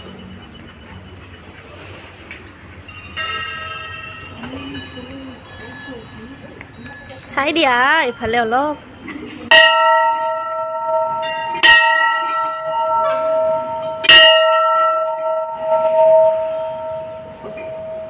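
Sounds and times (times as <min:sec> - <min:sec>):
brass bell ringing: 0:00.0 - 0:02.1, 0:02.8 - 0:08.8, 0:09.5 - 0:18.0.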